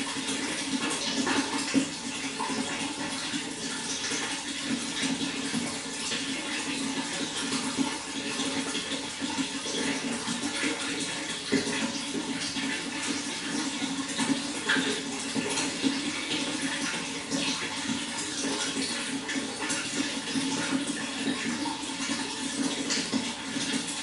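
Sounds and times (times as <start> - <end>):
water flowing and splashing: 0.0 - 24.0.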